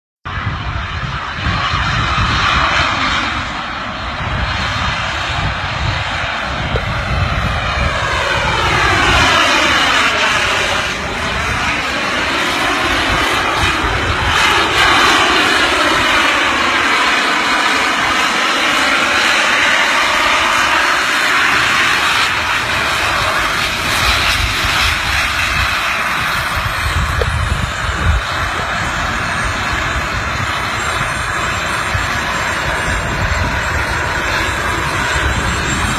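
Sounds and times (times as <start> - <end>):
aircraft engine whine: 0.2 - 35.9.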